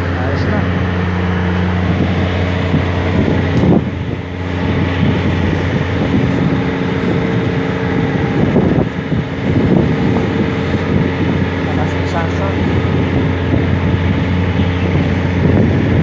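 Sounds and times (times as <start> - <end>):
engine hum: 0.0 - 16.0
wind buffeting microphone: 0.0 - 16.0.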